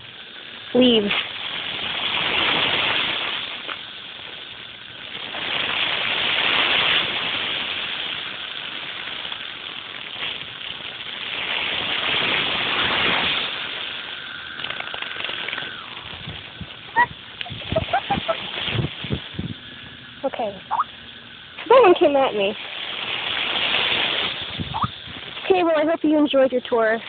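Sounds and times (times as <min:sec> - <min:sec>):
cicadas buzzing: 0:00.0 - 0:27.0.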